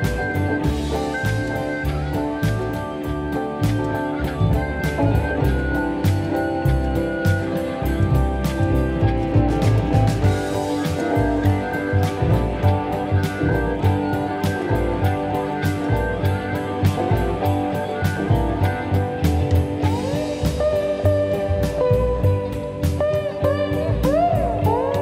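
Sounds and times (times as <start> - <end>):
drum kit beat: 0.0 - 25.0
guitar: 0.0 - 25.0
sliding guitar notes: 0.0 - 25.0.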